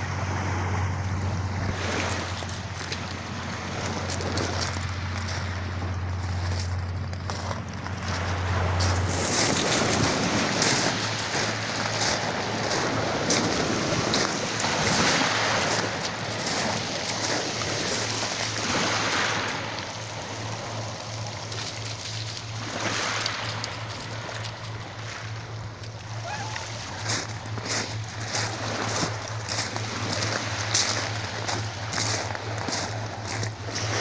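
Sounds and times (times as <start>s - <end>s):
steady low hum: 0.0s - 34.0s
waves over a pebble beach: 0.0s - 34.0s.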